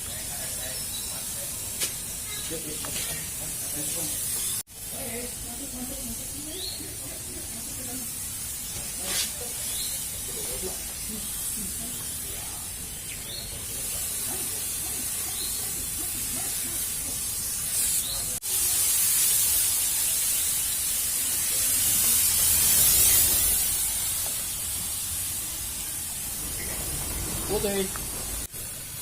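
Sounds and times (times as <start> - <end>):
fogging machine hissing: 0.0 - 29.0.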